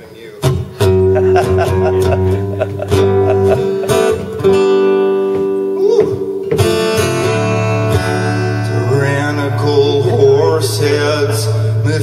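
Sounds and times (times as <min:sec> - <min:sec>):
acoustic guitar strumming: 0:00.4 - 0:12.0.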